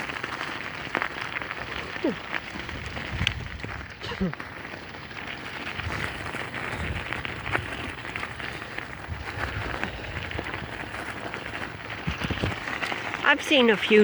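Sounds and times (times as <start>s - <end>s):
bicycle tyres rolling on rough ground: 0.0s - 14.0s
wind rumbling on microphone: 0.0s - 14.0s.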